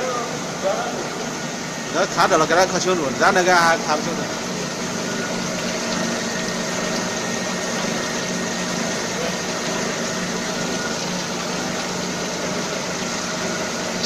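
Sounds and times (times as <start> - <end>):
machinery humming: 0.0 - 14.0
oil showering into tank: 0.0 - 14.0.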